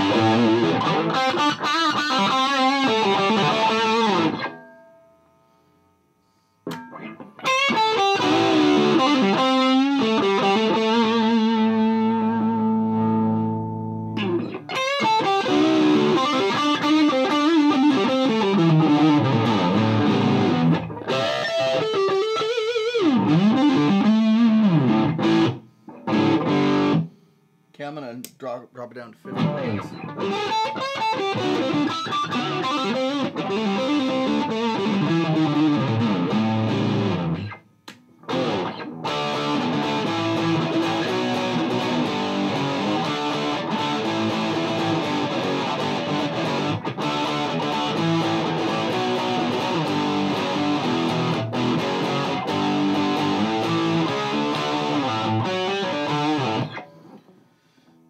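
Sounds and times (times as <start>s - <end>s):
distorted electric guitar riffs: 0.0s - 58.0s.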